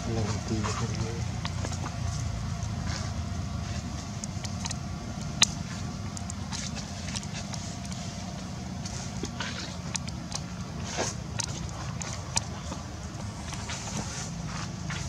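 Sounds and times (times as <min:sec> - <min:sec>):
low outdoor rumble: 0:00.0 - 0:15.0
small clicks and rustles: 0:00.2 - 0:15.0.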